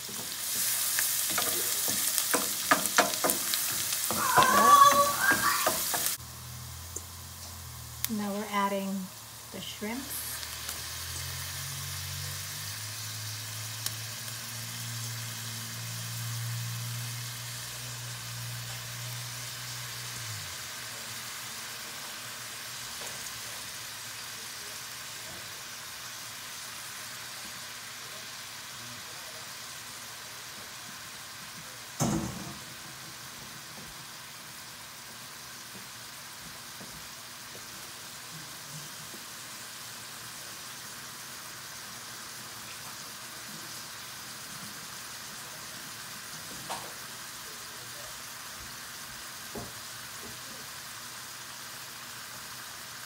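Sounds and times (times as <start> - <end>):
shrimp sizzling in oil: 0.0 - 53.0.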